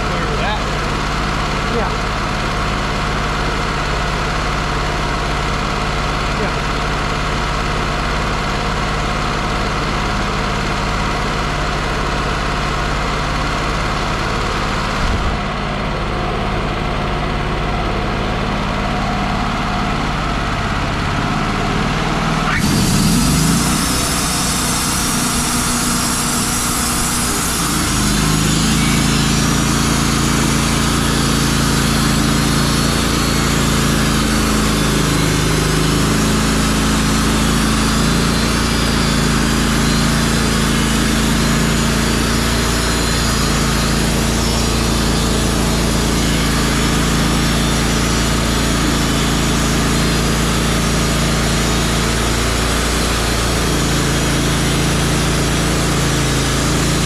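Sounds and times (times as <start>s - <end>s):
sawmill engine running: 0.0s - 57.0s
short rising whine: 9.0s - 57.0s.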